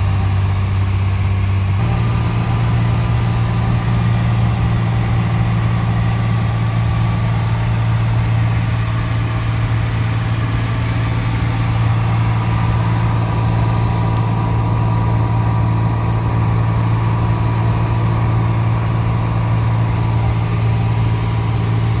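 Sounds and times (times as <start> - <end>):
aircraft engine and propeller droning: 0.0 - 22.0
faint steady whine: 0.0 - 22.0.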